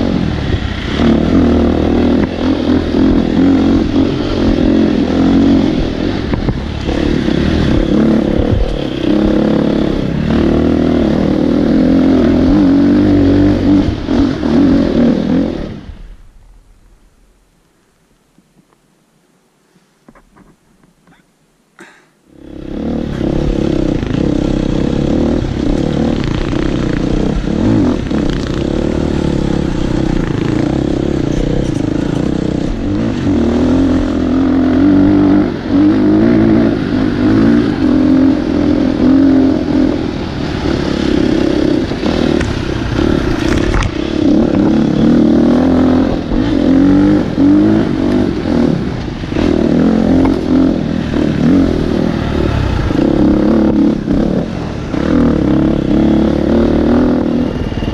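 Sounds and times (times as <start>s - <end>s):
dirt bike engine revving: 0.0s - 16.1s, 22.3s - 57.9s.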